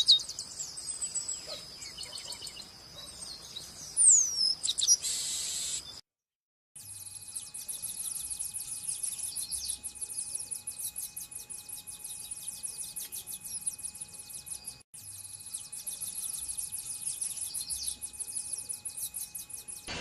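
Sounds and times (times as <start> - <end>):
small birds chirping: 0.0 - 6.0, 6.8 - 20.0.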